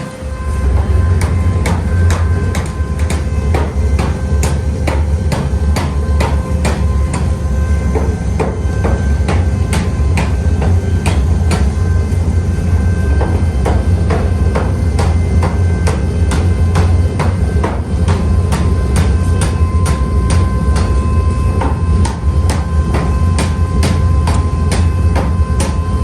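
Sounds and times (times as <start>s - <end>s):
hammer blows on metal: 0.0s - 26.0s
steady low hum: 0.0s - 26.0s.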